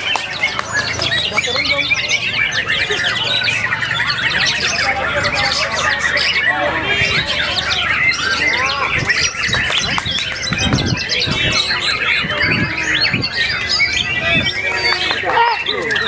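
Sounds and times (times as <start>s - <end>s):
birds whistling and trilling: 0.0s - 16.0s.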